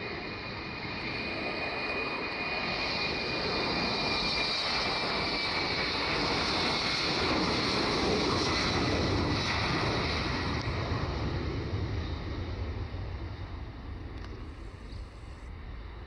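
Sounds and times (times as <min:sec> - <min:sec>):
jet engines at takeoff thrust: 0:00.0 - 0:16.0
thin high engine whine: 0:00.0 - 0:16.0.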